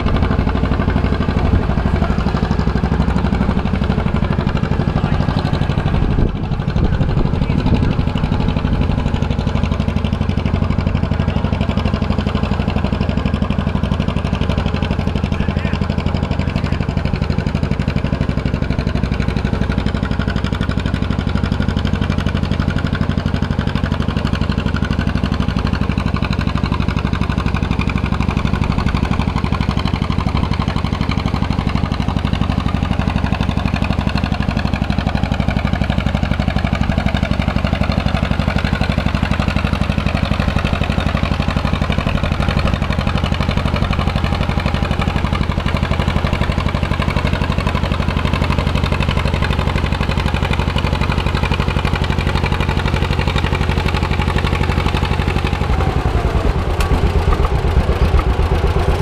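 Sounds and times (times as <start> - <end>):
tractor engine pulling under load: 0.0 - 59.0.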